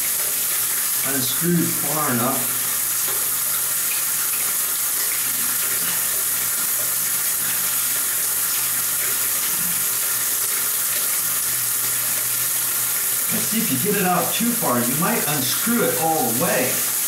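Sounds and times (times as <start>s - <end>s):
shower water running: 0.0s - 17.0s.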